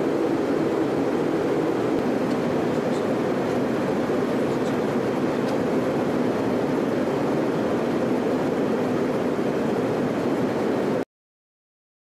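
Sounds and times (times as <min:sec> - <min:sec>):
aircraft cabin engine drone: 0:00.0 - 0:11.1.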